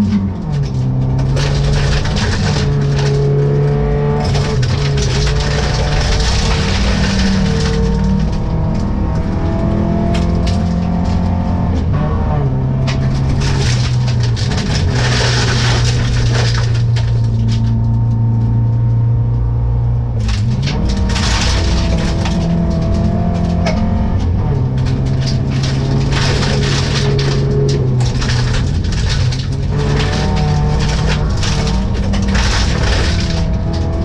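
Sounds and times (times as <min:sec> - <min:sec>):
gravel ticking against car body: 0:00.0 - 0:11.9, 0:12.8 - 0:34.0
rally car engine revving: 0:00.0 - 0:34.0.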